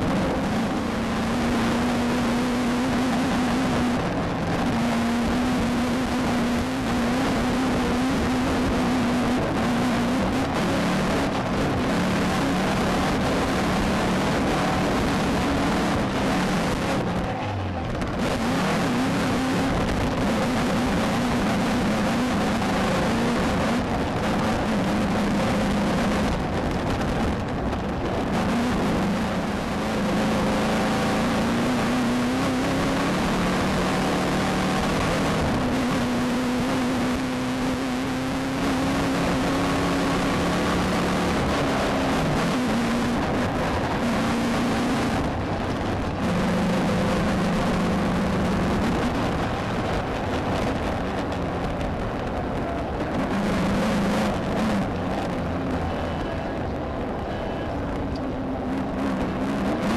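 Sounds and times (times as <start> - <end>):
race car engine revving: 0.0 - 59.9
wind tyre and chassis noise: 0.0 - 59.9.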